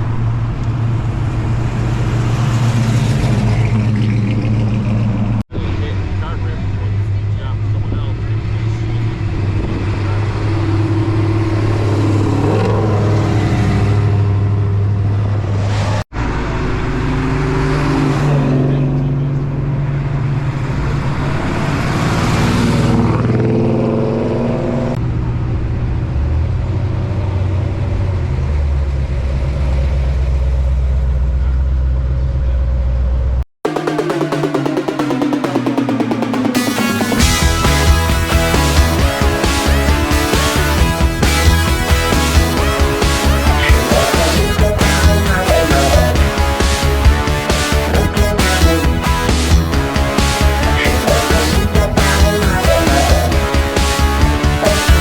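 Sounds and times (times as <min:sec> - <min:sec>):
car engines idling and revving: 0:00.0 - 0:55.0.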